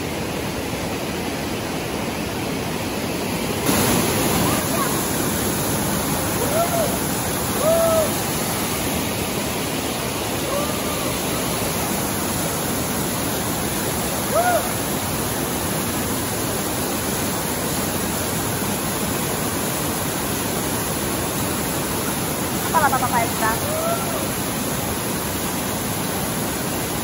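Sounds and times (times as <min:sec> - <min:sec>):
water rushing over rock: 0:00.0 - 0:27.0.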